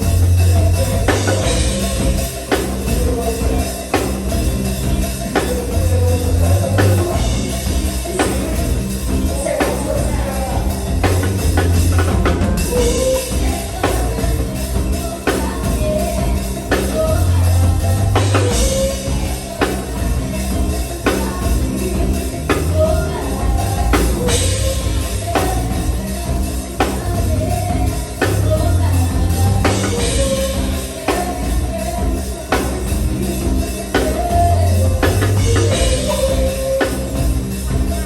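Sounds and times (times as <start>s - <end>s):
drum kit beat: 0.0s - 38.0s
heavy bass line: 0.0s - 38.0s
person singing: 0.0s - 38.0s.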